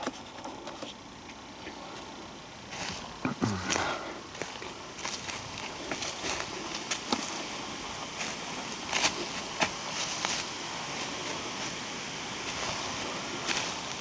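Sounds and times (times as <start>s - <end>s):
footsteps on dry forest litter: 2.0s - 14.0s.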